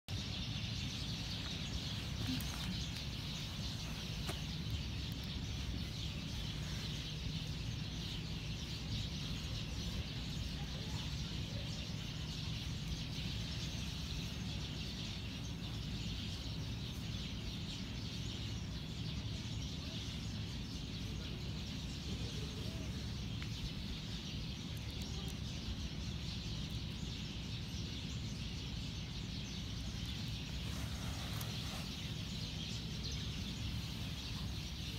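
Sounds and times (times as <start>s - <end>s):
constant high hiss: 0.1s - 34.9s.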